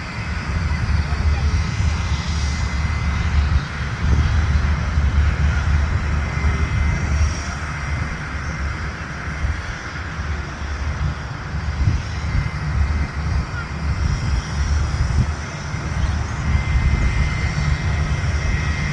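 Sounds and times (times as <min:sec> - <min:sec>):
jet engines running: 0:00.0 - 0:18.9.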